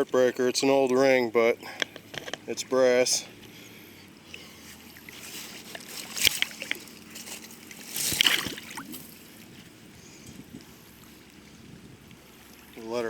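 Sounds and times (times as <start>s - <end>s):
water sloshing and splashing: 1.7s - 13.0s.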